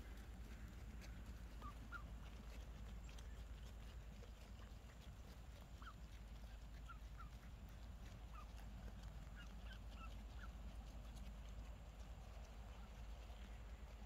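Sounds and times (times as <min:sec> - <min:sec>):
ducks peeping: 0:00.0 - 0:14.0
low steady rumble: 0:00.0 - 0:14.0.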